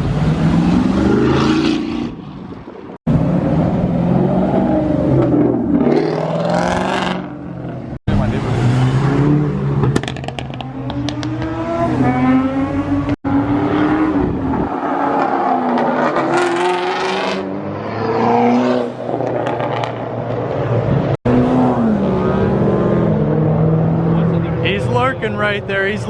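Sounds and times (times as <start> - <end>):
cars accelerating hard: 3.1 - 25.7.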